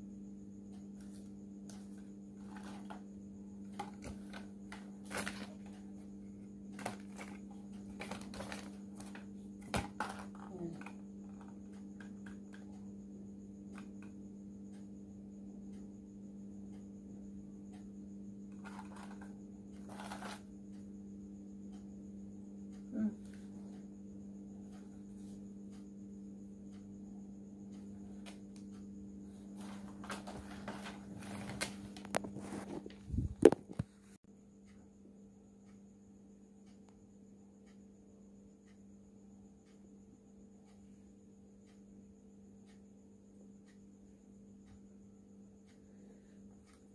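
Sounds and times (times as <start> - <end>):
steady hum: 0.0 - 46.9.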